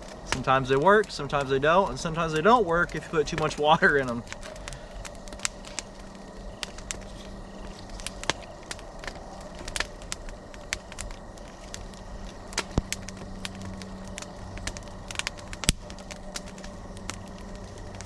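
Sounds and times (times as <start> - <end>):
campfire crackling and popping: 0.0 - 18.0
low steady hum: 0.0 - 18.0.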